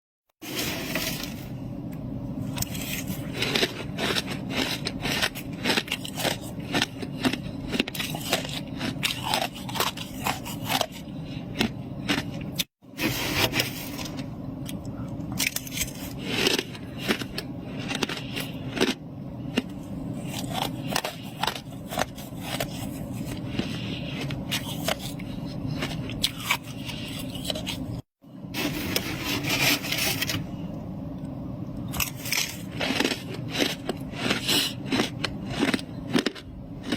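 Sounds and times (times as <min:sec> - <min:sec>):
frost being scraped and crunched: 0:00.4 - 0:01.7, 0:02.4 - 0:14.4, 0:15.4 - 0:30.5, 0:31.9 - 0:36.9.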